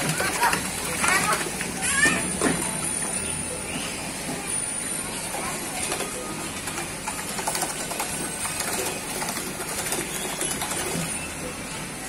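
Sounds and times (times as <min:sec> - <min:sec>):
paddle wheels splashing water: 0:00.0 - 0:11.2.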